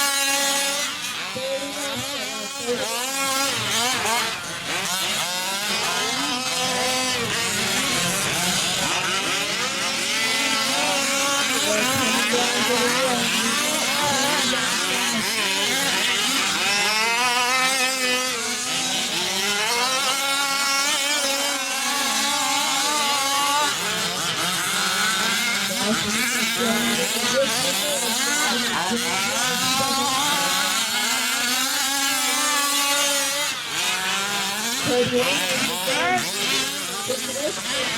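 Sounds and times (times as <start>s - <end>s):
small two-stroke engines racing: 0.0s - 37.9s.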